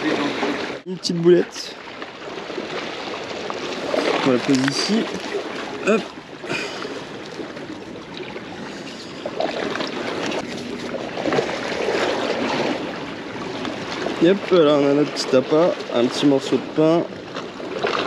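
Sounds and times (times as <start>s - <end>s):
sea washing against rocks: 0.0s - 18.0s.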